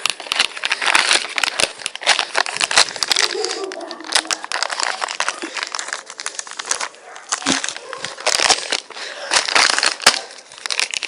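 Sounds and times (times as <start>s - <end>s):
dry leaves and twigs rustling: 0.0s - 11.0s.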